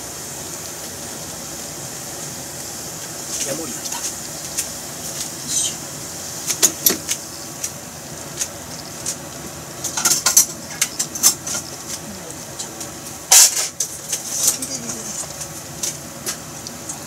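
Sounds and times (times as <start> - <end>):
chicken frying in oil: 0.0 - 17.0
oil crackling pops: 2.9 - 17.0.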